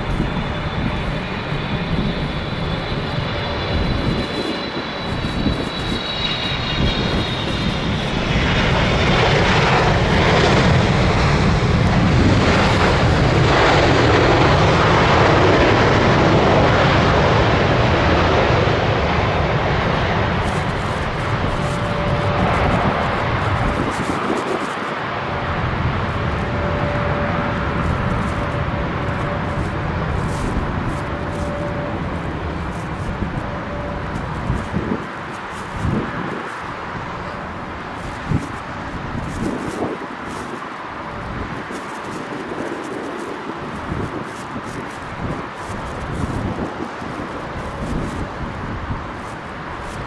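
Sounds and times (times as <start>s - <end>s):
jet engines passing: 0.0s - 50.0s.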